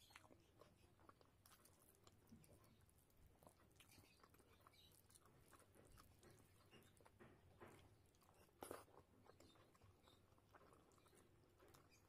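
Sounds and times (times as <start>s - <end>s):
fingers mixing sticky food: 0.0s - 12.0s
person chewing: 0.0s - 12.0s.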